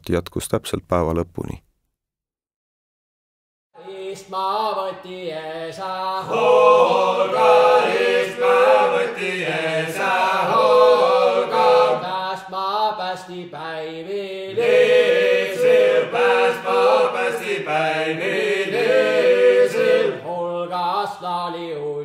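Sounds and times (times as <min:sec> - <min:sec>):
chant-like folk singing: 0:03.8 - 0:22.0.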